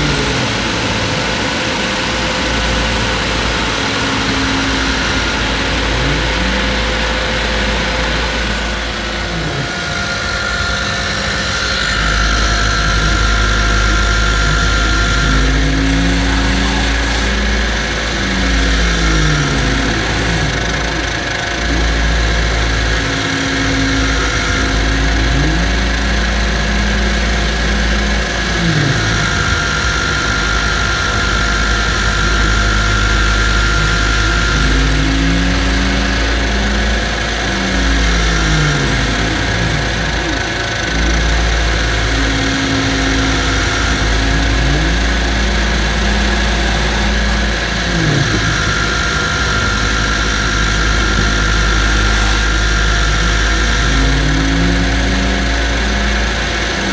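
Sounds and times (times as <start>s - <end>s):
shop vacuum running: 0.0s - 56.9s.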